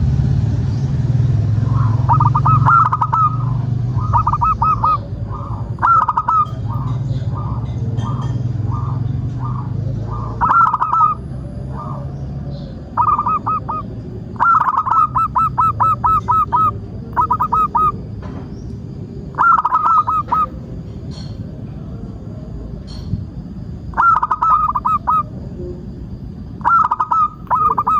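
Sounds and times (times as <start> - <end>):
steady low hum: 0.0 - 27.9
dove cooing: 1.5 - 27.9.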